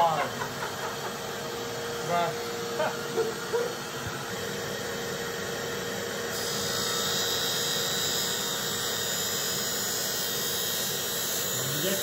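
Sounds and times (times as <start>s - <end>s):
motor and dust extractor whine: 0.0s - 12.0s.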